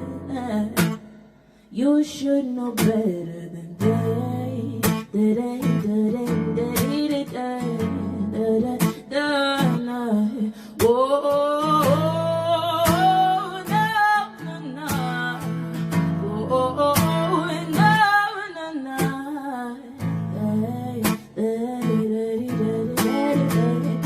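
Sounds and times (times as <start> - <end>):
strummed guitar: 0.0 - 24.0
woman singing: 0.0 - 24.0.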